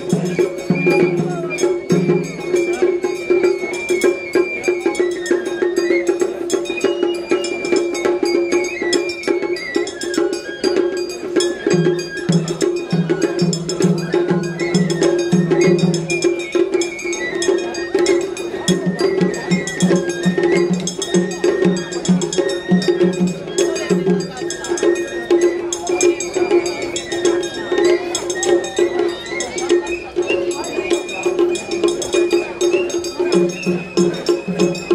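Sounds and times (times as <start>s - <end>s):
bamboo flute melody: 0.0s - 34.9s.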